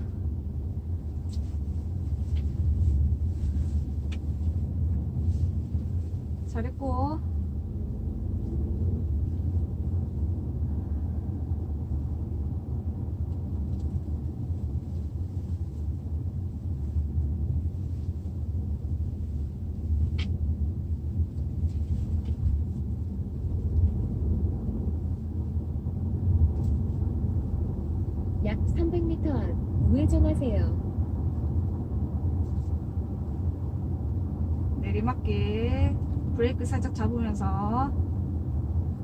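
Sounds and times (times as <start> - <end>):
road and engine rumble in car cabin: 0.0 - 39.0.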